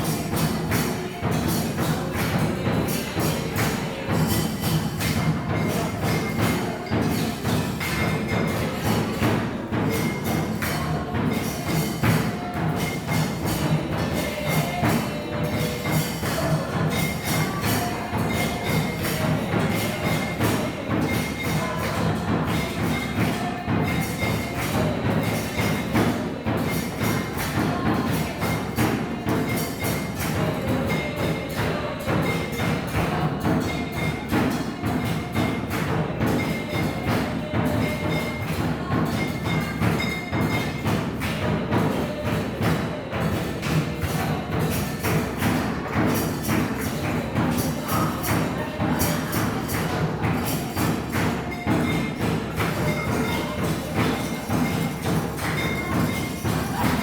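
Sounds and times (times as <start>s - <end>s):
quick percussive knocks: 0.0s - 57.0s.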